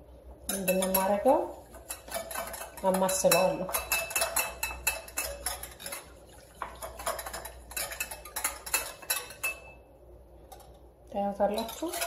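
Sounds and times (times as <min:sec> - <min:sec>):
whisk clinking against glass bowl: 0:00.5 - 0:09.8, 0:11.4 - 0:12.0.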